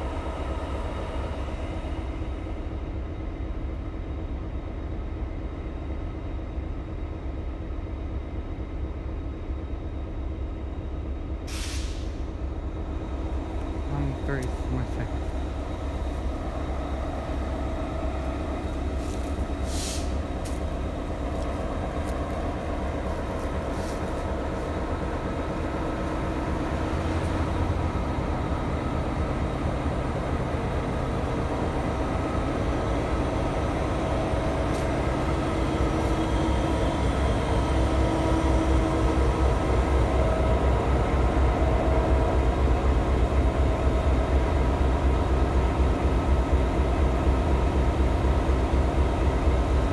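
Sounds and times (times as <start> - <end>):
diesel locomotives idling: 0.0 - 49.9.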